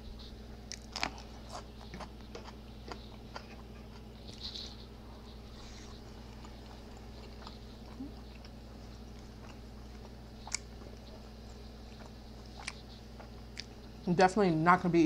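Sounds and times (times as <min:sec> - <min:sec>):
steady low hum: 0:00.0 - 0:15.0
close-up chewing: 0:00.6 - 0:14.1.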